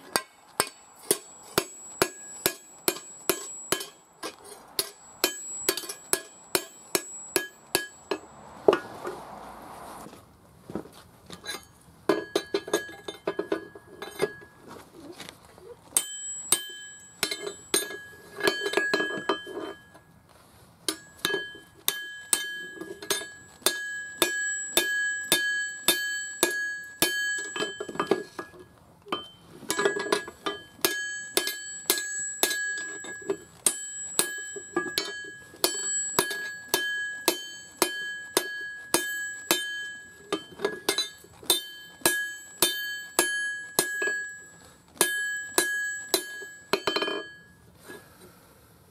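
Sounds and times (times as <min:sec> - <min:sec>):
hammer striking steel on anvil: 0:00.0 - 0:09.0, 0:11.5 - 0:14.6, 0:16.0 - 0:20.0, 0:20.9 - 0:47.6.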